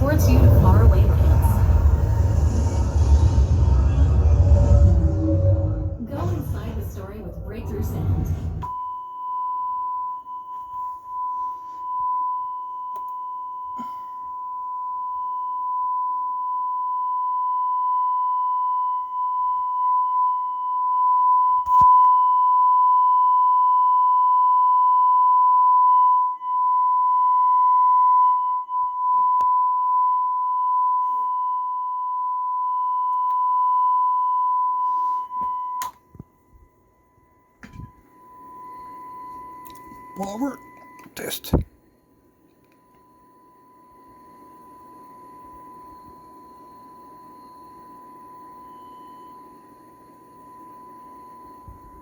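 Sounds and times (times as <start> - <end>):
sine test tone: 0.0 - 52.0.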